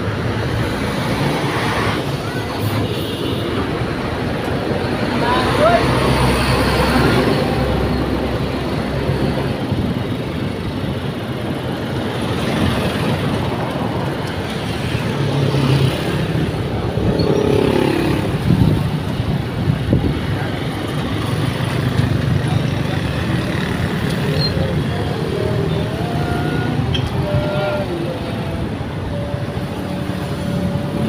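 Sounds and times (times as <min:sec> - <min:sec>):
road traffic passing: 0:00.0 - 0:31.0
steady road noise: 0:00.0 - 0:31.0.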